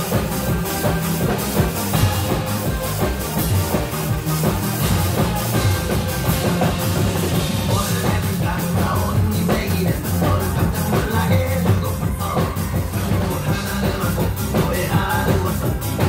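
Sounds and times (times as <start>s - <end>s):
barrel drums struck fast: 0.0s - 16.0s
drum kit: 0.0s - 16.0s
rock music with steady beat: 0.0s - 16.0s.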